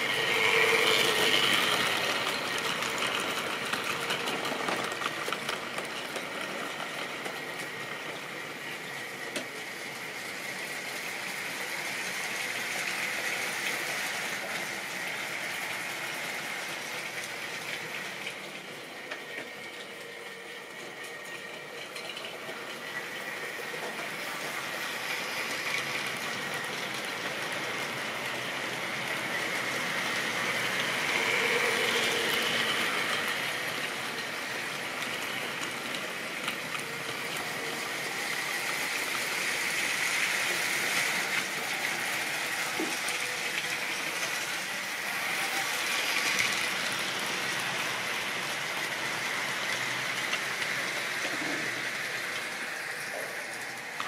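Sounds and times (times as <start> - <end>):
model train wheels rattling on rails: 0.0 - 54.0.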